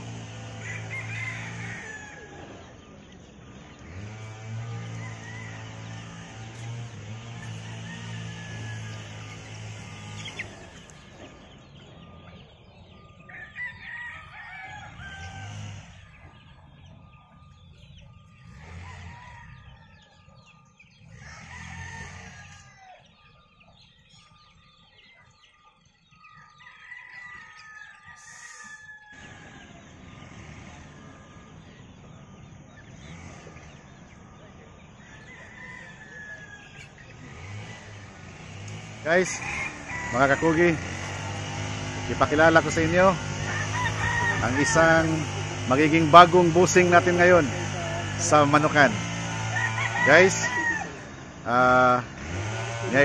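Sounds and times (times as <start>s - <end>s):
chickens clucking: 0.0s - 53.0s
roosters crowing: 0.0s - 53.0s.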